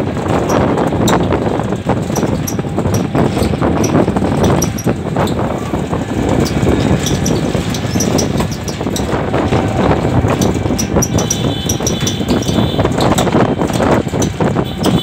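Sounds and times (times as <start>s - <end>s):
rickshaw body rattling and clicking: 0.0s - 15.0s
wheels rumbling on road: 0.0s - 15.0s.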